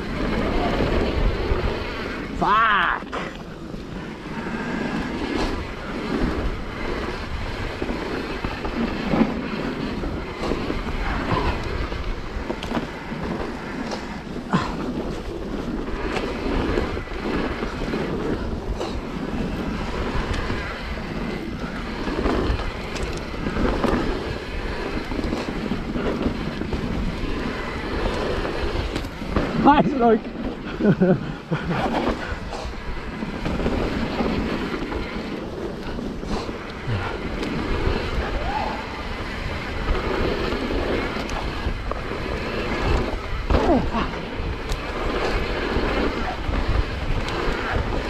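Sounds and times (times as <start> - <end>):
tyre rumble: 0.0 - 48.0
wind rush on microphone: 0.0 - 48.0
bike knocks and rattles: 6.2 - 48.0.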